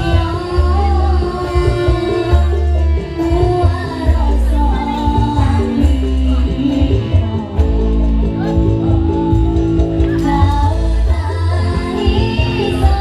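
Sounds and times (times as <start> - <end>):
girls singing into microphones: 0.0 - 8.6, 10.0 - 13.0.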